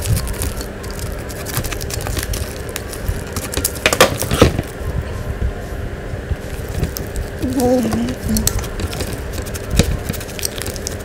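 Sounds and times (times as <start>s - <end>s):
plastic wrapping crackling: 0.0s - 4.8s, 6.4s - 11.0s.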